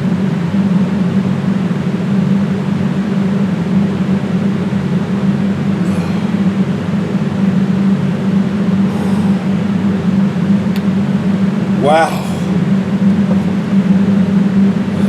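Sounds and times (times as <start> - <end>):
loud droning hum with hiss: 1.7 - 15.0.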